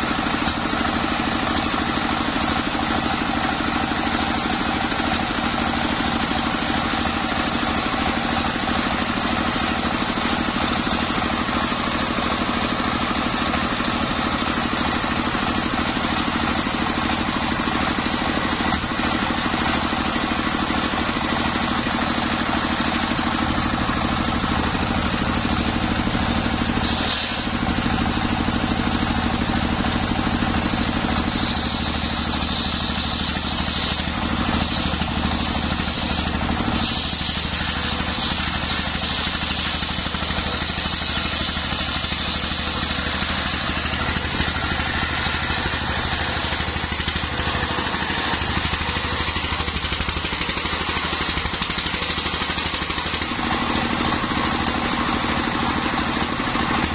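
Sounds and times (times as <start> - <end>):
circular saw cutting log: 0.0 - 56.9
diesel engine running: 0.0 - 56.9.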